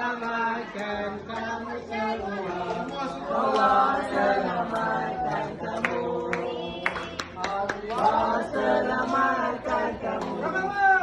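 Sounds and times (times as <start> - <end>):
people chanting together: 0.0 - 11.0.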